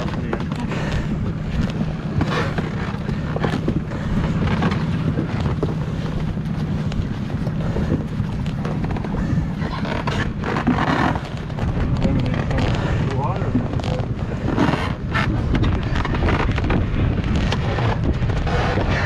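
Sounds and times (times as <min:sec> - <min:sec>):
low hum: 0:00.0 - 0:19.0
wind buffeting microphone: 0:00.0 - 0:19.0.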